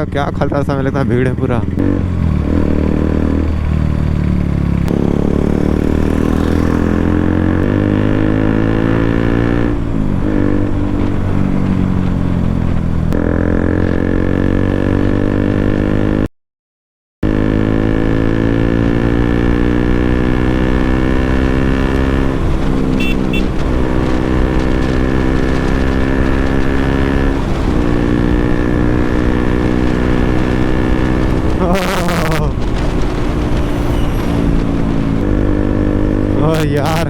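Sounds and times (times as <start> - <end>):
motorcycle engine running: 0.0 - 16.2, 17.2 - 37.0.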